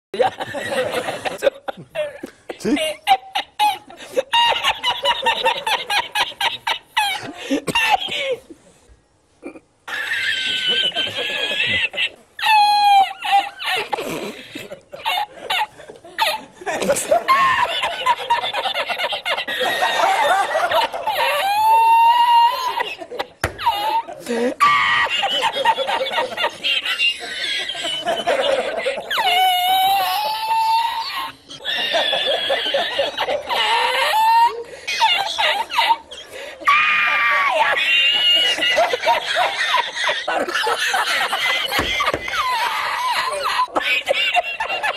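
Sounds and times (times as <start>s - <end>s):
man laughing: 0.2s - 8.5s, 9.4s - 44.9s.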